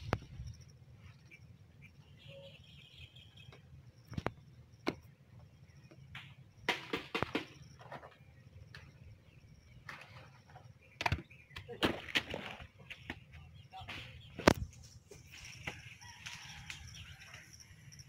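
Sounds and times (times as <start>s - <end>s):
birds chirping faintly: 0.0s - 6.7s, 7.3s - 18.0s.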